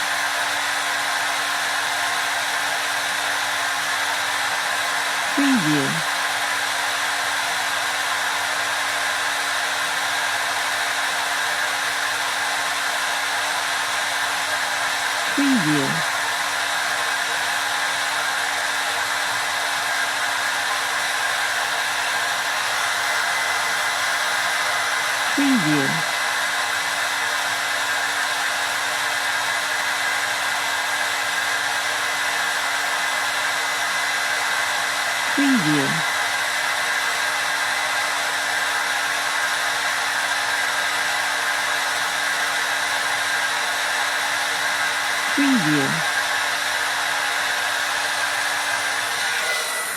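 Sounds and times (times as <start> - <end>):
hair dryer blowing: 0.0 - 5.4, 6.0 - 15.4, 16.1 - 25.4, 26.1 - 35.4, 36.1 - 45.4, 46.0 - 49.9.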